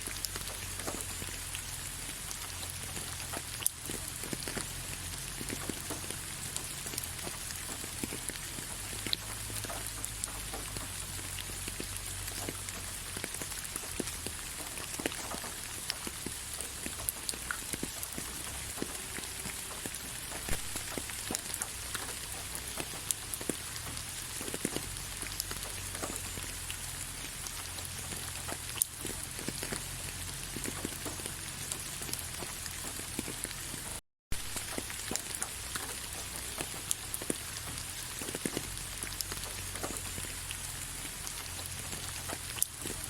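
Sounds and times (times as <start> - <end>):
sharp raindrop impacts: 0.0 - 43.0
steady rain falling: 0.0 - 43.0.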